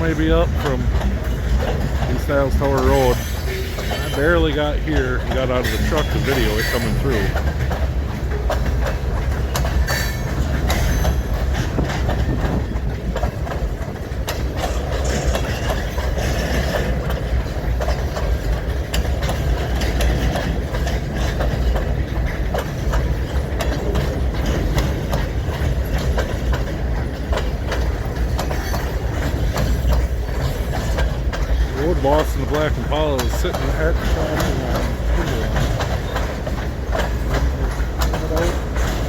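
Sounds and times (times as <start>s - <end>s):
freight train rumble: 0.0s - 39.0s
wheels clicking over rail joints: 0.0s - 39.0s.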